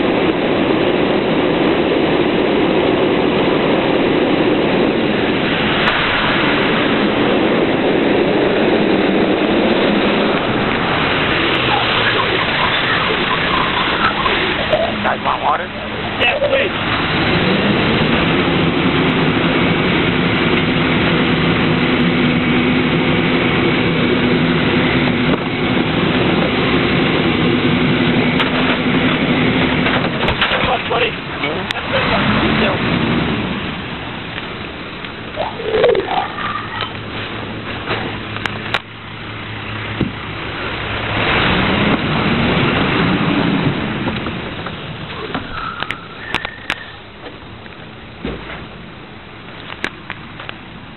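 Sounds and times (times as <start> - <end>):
truck engine drone: 0.0 - 50.9.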